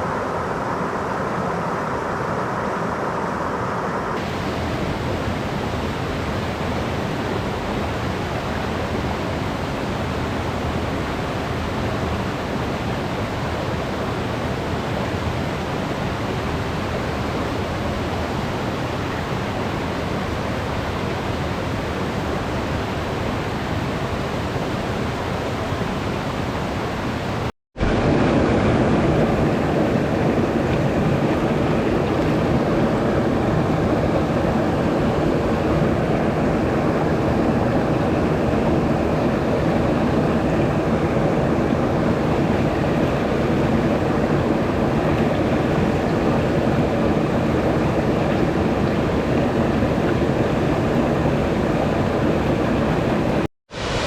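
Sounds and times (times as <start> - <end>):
flowing stream water: 0.0 - 54.0.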